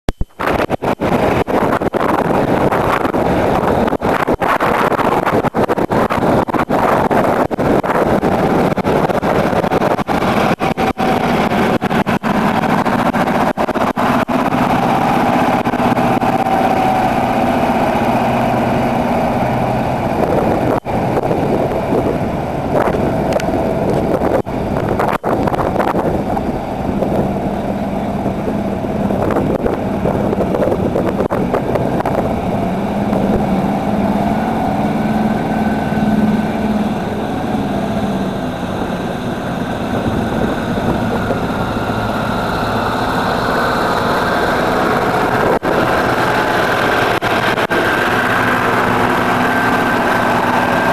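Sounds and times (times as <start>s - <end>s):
diesel truck engines running: 0.1s - 50.9s
rushing noise of flood water: 0.1s - 50.9s.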